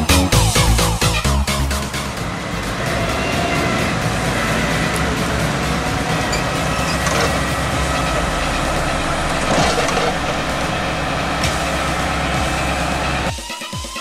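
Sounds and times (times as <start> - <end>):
harvester engine with high whine: 0.0 - 13.4.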